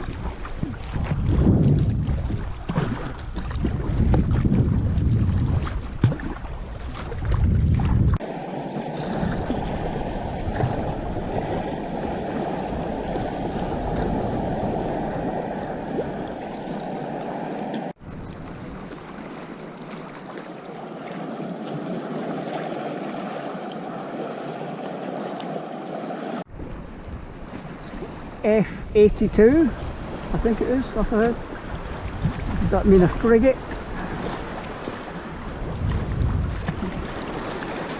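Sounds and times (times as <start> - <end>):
wind on microphone: 0.0 - 20.2, 21.0 - 37.9
sea waves washing around kayak: 0.0 - 37.9.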